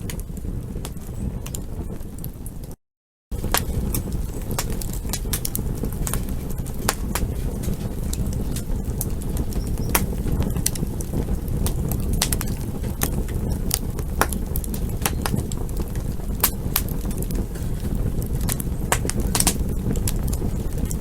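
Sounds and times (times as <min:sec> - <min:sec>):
burning wood crackling and popping: 0:00.0 - 0:21.0
low rumble of flames: 0:00.0 - 0:21.0.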